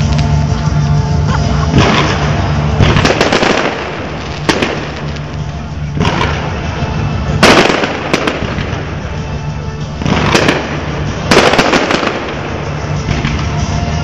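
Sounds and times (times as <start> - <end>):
fireworks crackling: 0.0 - 14.0
fireworks bangs: 1.6 - 14.0.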